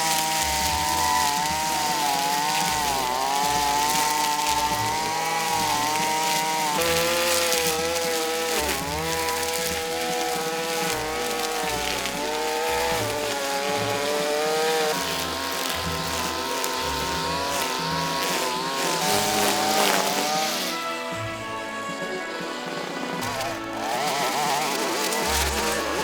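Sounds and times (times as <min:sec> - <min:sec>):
small petrol engine high revs: 0:00.0 - 0:26.0.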